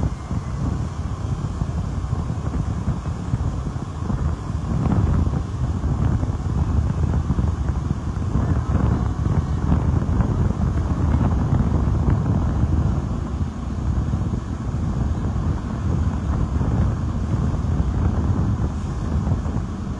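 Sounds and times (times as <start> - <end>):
low rumble: 0.0 - 19.9
wind buffeting microphone: 0.0 - 19.9.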